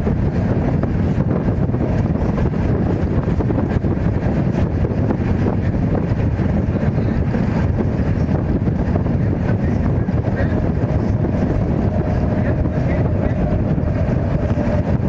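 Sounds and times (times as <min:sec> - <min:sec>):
train coach rumbling on track: 0:00.0 - 0:15.0
wind buffeting microphone: 0:00.0 - 0:15.0.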